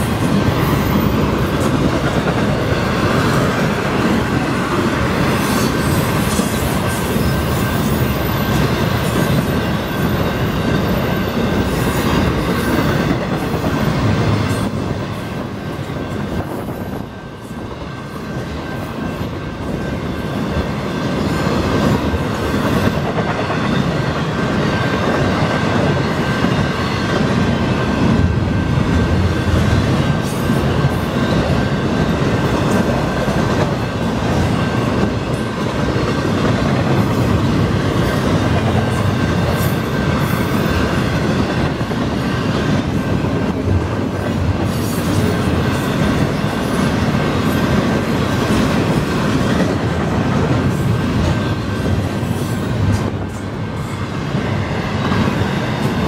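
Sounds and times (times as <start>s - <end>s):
steel train wheels on rail: 0.0s - 56.0s.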